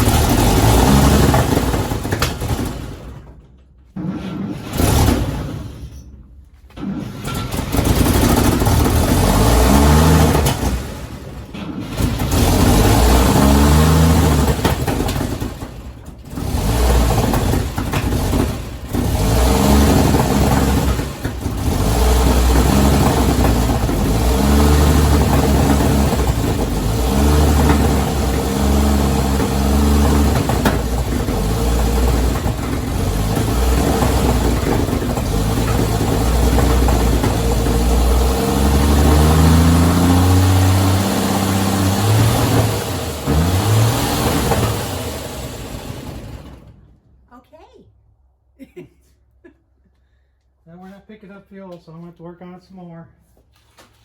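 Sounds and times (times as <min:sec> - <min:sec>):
truck engine starter cranking: 0:00.0 - 0:47.0.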